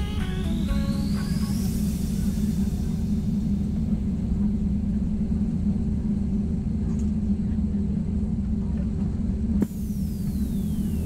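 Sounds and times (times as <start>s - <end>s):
jet engines rumbling: 0.0s - 11.0s
low hum: 0.0s - 11.0s.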